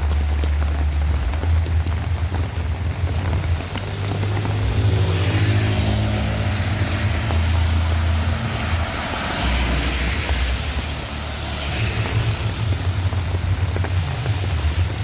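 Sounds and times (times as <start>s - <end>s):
heavy rain: 0.0s - 15.0s
tyres hissing on wet road: 0.0s - 15.0s
vehicle engine passing: 0.3s - 15.0s.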